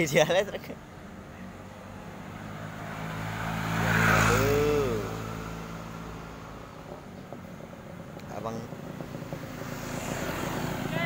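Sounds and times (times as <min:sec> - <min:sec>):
vehicle passing by: 0:00.8 - 0:11.0.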